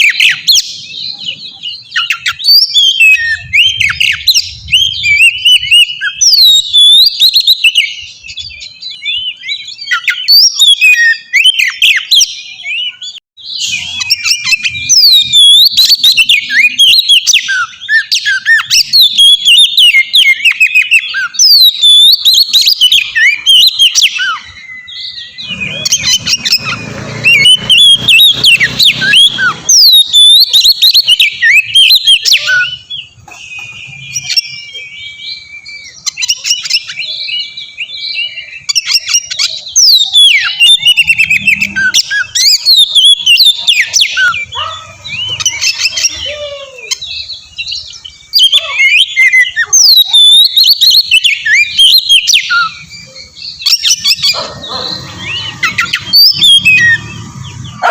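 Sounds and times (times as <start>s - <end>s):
bird singing whistles and chirps: 0.0s - 57.9s.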